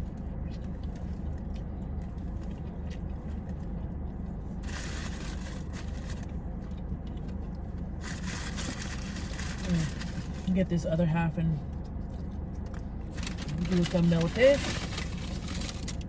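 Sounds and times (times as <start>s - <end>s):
car air conditioning rumble: 0.0s - 16.0s.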